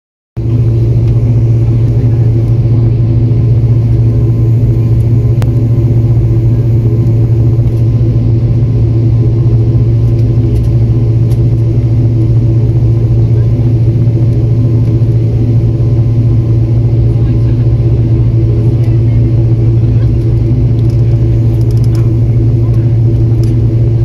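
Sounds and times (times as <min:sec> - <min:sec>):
airliner cabin drone: 0:00.4 - 0:24.0.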